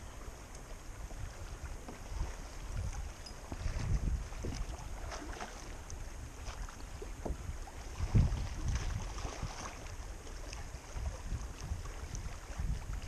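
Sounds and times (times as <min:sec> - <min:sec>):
water slapping kayak hull: 0:00.0 - 0:13.0
wind rumbling on microphone: 0:00.0 - 0:13.0.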